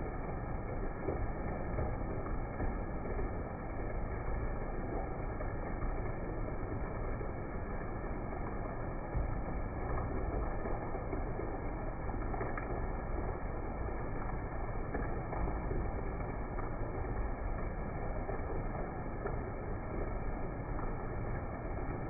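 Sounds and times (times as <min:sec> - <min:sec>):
faint ticks of drops: 0:00.0 - 0:22.0
heavy rain falling: 0:00.0 - 0:22.0.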